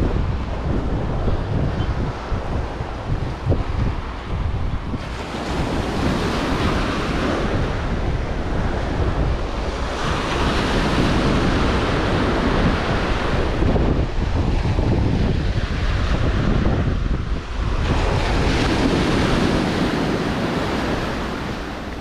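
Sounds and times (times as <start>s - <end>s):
surf waves breaking on sand: 0.0s - 22.0s
wind buffeting microphone: 0.0s - 22.0s.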